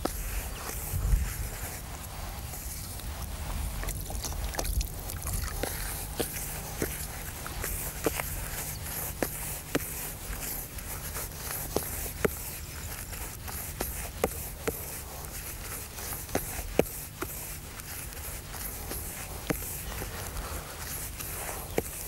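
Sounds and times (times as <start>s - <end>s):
hands mixing groundbait: 0.0s - 22.0s
low background noise: 0.0s - 22.0s.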